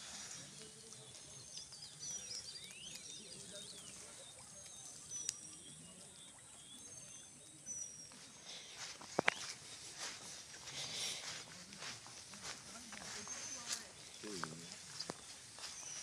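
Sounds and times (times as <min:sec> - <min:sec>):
wild birds calling: 0:00.9 - 0:16.0.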